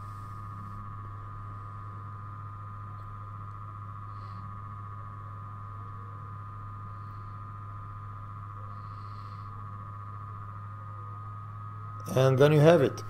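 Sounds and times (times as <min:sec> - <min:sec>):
electrical hum: 0:00.0 - 0:13.0
high-pitched electrical whine: 0:00.0 - 0:13.0.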